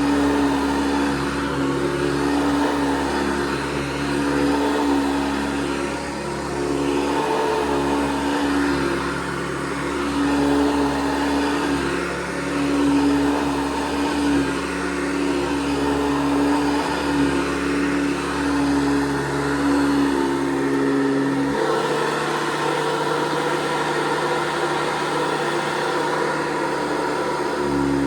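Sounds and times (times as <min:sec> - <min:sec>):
upright vacuum cleaner running: 0:00.0 - 0:28.0.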